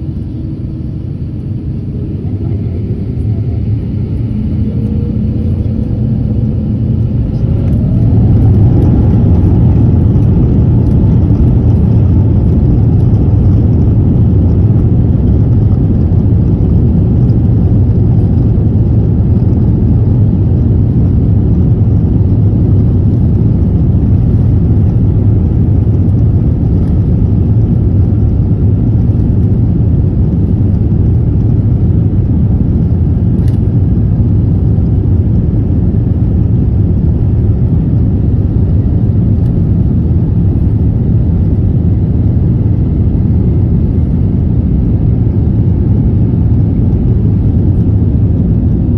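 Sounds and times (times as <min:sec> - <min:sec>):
airliner cabin rumble: 0:00.0 - 0:48.9.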